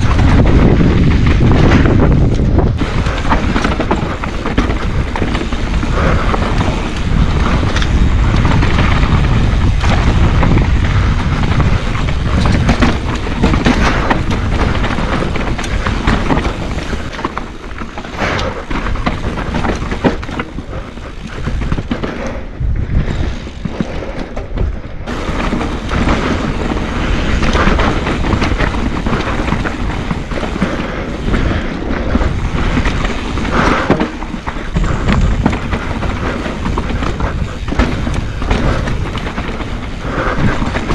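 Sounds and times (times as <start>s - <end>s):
bike rattling over bumps: 0.0s - 40.9s
tyre and trail noise rushing: 0.0s - 40.9s.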